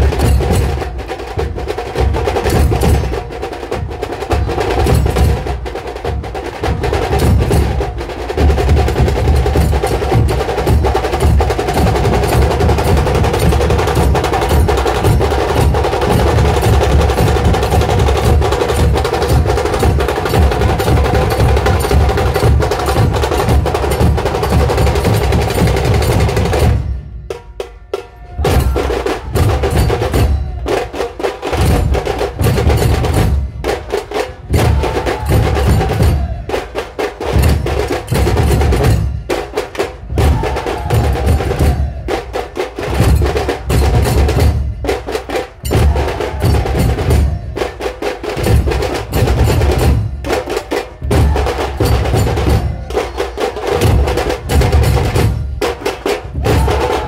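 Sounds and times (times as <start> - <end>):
barrel drums beaten rapidly: 0.0 - 57.0.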